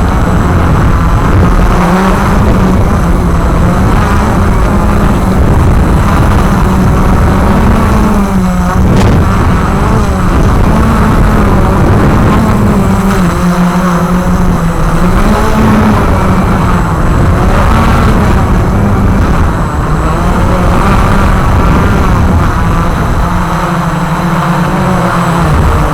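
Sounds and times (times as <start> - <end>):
drone propellers whirring: 0.0 - 25.9.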